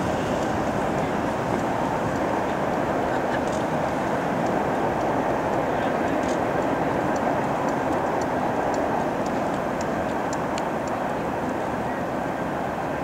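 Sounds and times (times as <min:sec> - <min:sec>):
wind rushing on microphone: 0:00.0 - 0:13.0.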